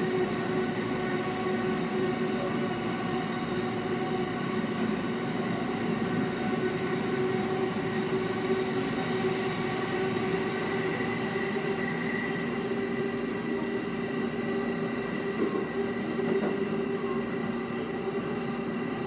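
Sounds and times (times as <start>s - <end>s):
train rail and running noise: 0.0s - 19.0s.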